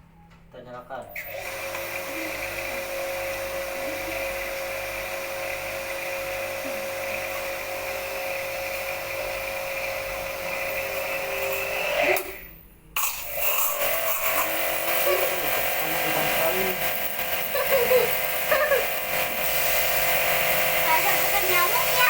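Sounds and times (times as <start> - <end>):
pressure washer motor whine: 1.1 - 22.0.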